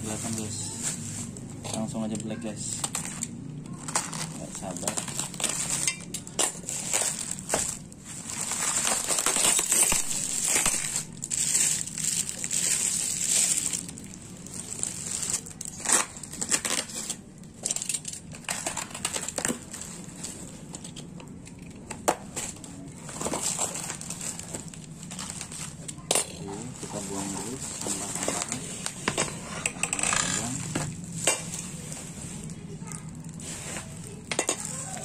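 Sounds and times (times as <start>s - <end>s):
bubble wrap crinkling: 0.0s - 21.2s, 22.2s - 35.0s.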